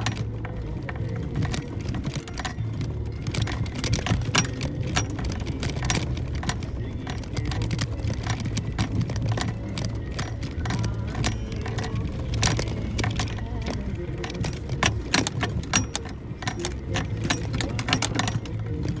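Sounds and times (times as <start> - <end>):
vehicle rattling over rough track: 0.0 - 19.0.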